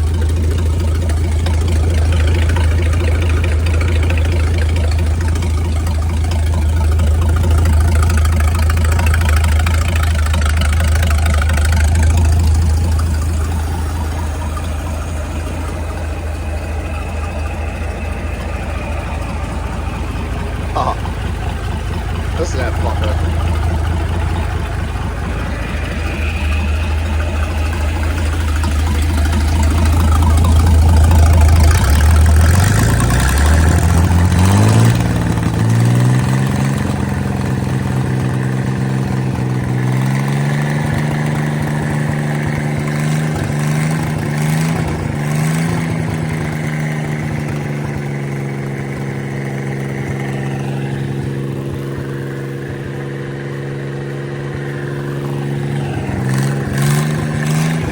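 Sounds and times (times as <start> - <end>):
marine engine running: 0.0 - 57.9.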